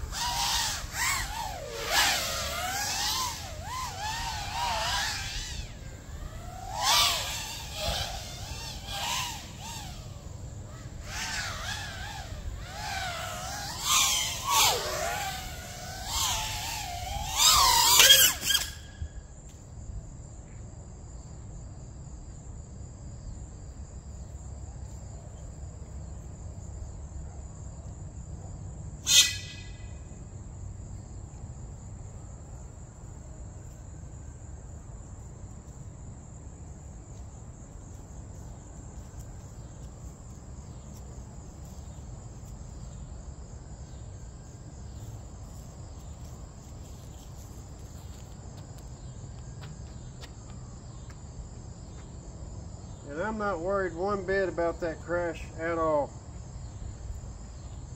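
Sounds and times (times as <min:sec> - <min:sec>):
crickets trilling: 0:00.0 - 0:57.9.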